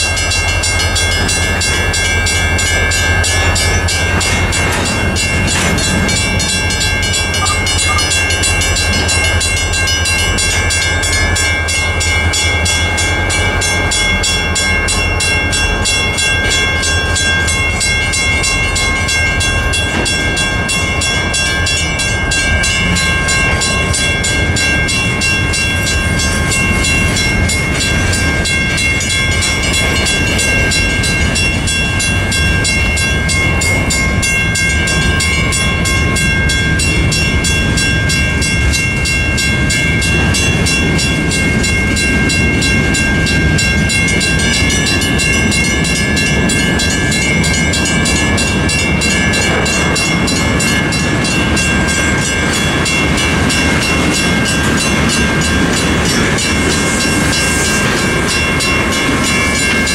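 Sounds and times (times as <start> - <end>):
crossing bells ringing: 0.0 - 59.9
train wheels on rails: 0.0 - 59.9.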